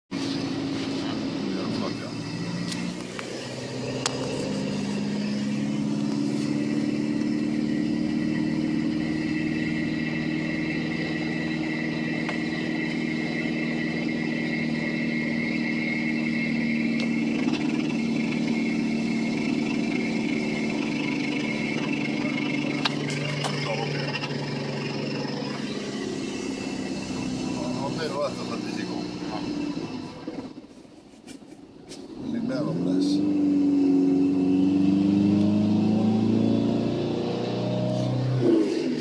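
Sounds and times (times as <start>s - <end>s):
pickup engine running: 0.1s - 39.0s
steady high whine: 0.2s - 39.0s.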